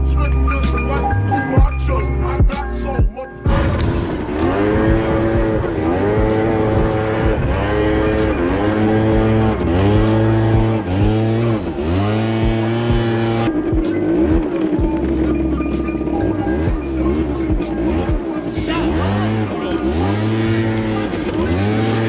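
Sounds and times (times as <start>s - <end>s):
background music with bass: 0.0s - 22.0s
moped engine revving: 0.6s - 22.0s
wavering engine note: 3.4s - 22.0s.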